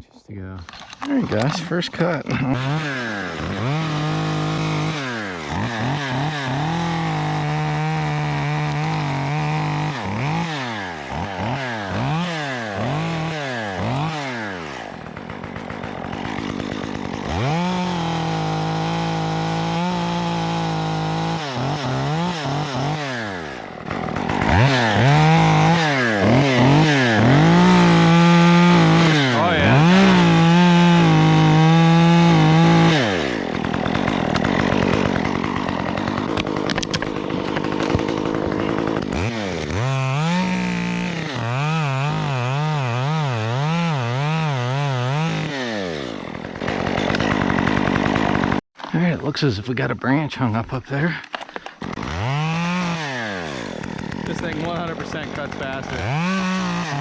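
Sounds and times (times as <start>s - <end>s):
chainsaw revving and cutting wood: 0.6s - 57.0s.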